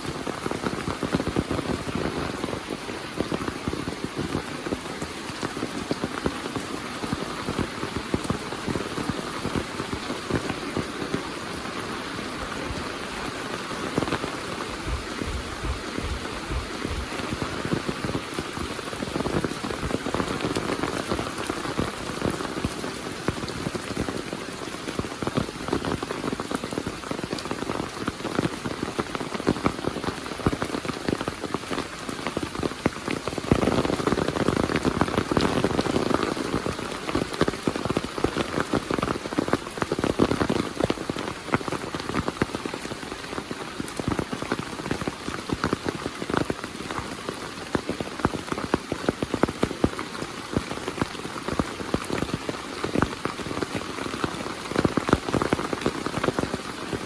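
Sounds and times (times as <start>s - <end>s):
heavy rain patter: 0.0s - 57.0s.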